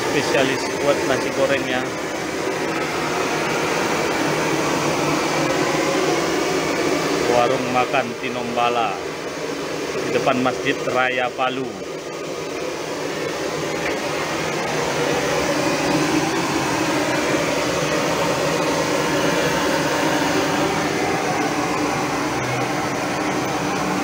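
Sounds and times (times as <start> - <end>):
gas burners hissing: 0.0 - 24.0.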